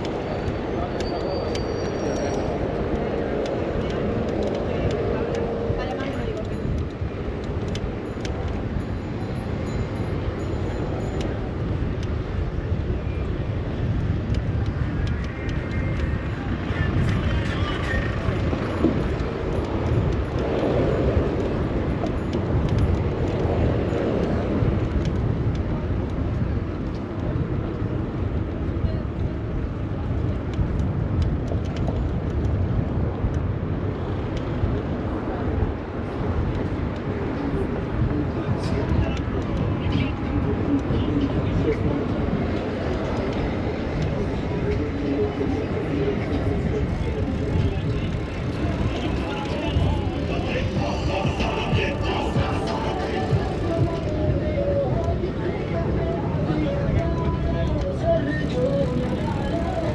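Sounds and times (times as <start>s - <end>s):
city street traffic rumble: 0.0s - 59.9s
wind on microphone: 0.0s - 59.9s.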